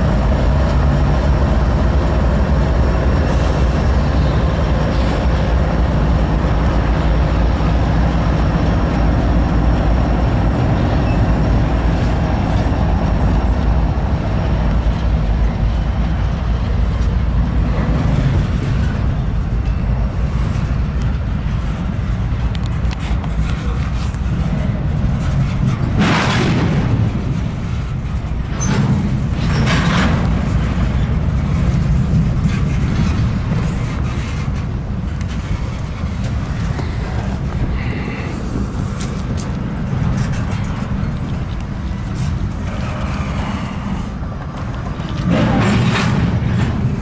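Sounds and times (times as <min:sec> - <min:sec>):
freight train wheels rumbling on rail: 0:00.0 - 0:47.0.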